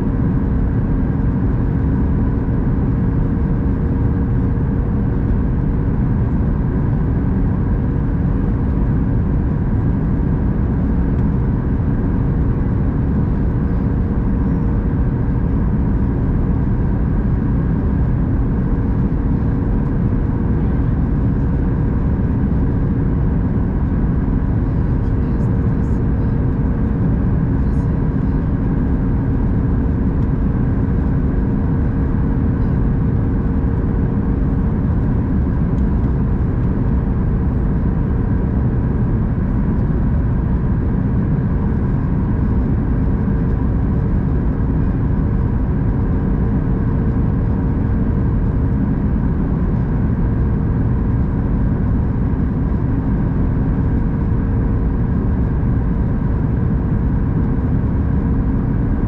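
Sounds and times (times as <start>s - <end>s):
jet engine drone: 0.0s - 59.0s
steady humming tones: 0.0s - 59.0s.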